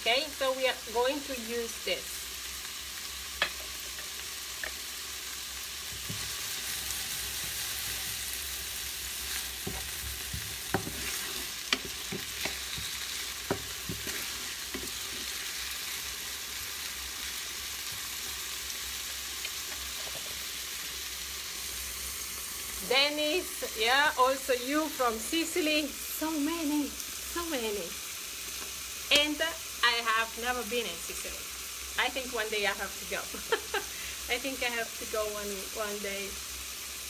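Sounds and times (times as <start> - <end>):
vegetables sizzling in a pan: 0.0 - 37.0.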